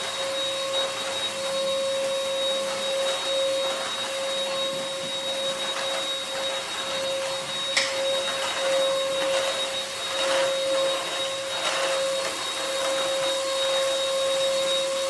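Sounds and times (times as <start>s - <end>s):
stick vacuum running: 0.0s - 15.0s.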